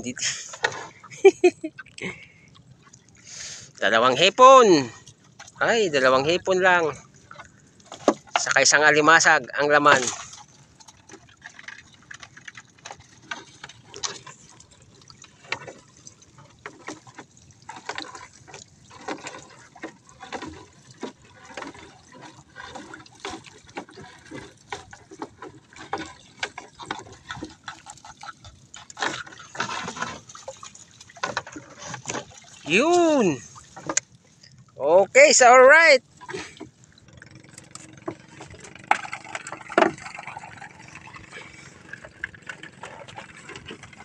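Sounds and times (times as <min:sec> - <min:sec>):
water splashing and dripping: 0:00.0 - 0:44.0.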